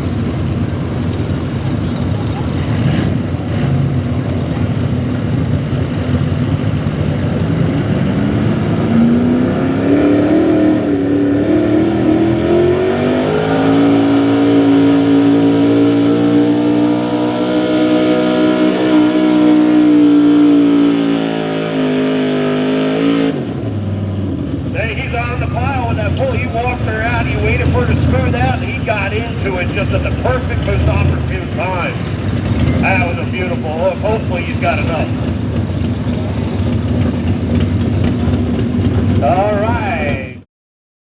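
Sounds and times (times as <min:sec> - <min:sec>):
pulling truck engine revving: 0:00.0 - 0:40.4.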